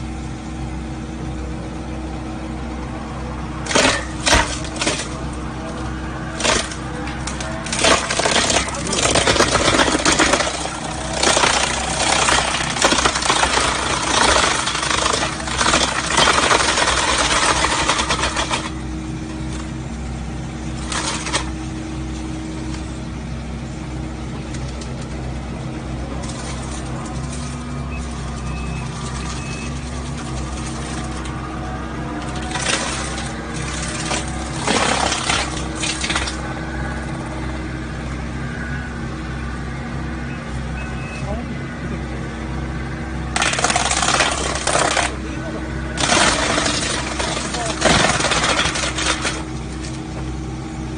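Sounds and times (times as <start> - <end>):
diesel engine running: 0.0 - 50.9
wood chipper crackling: 0.1 - 50.9.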